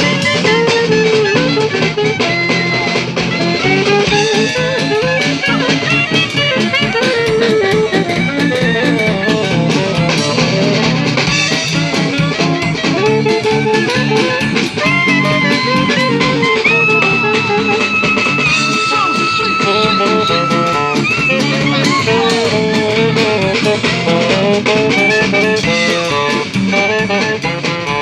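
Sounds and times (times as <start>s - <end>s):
dixieland jazz band: 0.0s - 28.0s
melodic lead line: 0.0s - 28.0s
plucked guitar: 0.0s - 28.0s.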